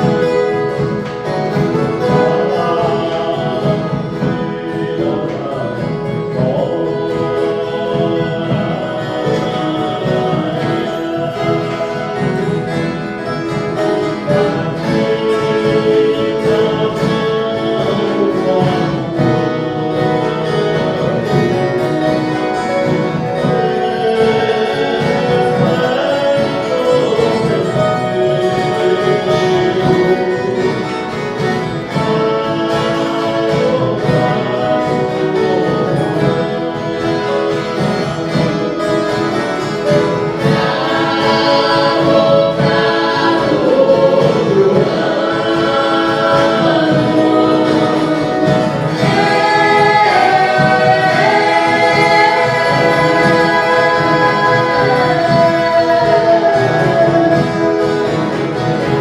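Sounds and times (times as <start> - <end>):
plucked and strummed guitars: 0.0 - 59.0.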